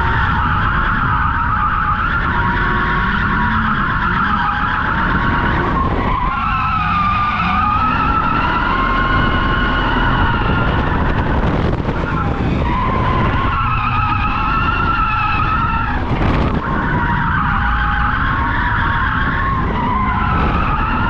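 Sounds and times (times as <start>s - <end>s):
tyres squealing: 0.0s - 21.0s.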